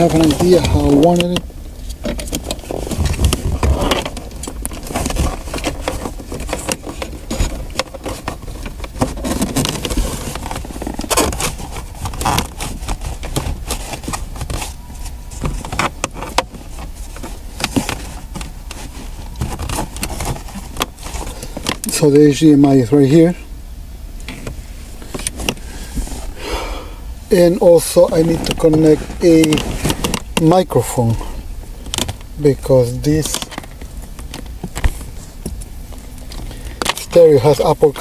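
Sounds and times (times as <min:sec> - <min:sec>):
wiring and plastic rustling: 0:00.0 - 0:23.4, 0:24.2 - 0:26.4, 0:27.3 - 0:38.0.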